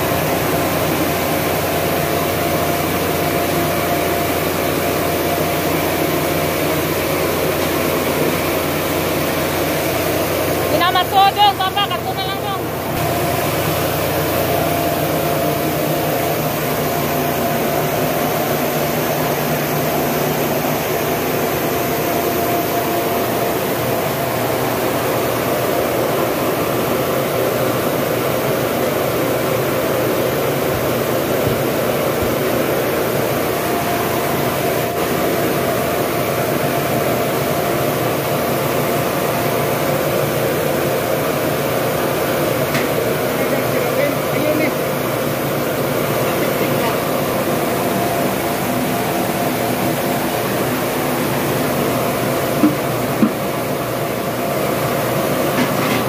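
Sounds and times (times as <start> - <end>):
mill machine drone: 0.0 - 56.0.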